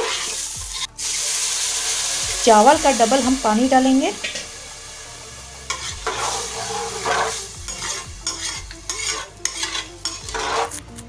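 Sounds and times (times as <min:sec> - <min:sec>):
water sizzling and splashing in pot: 0:00.0 - 0:11.0.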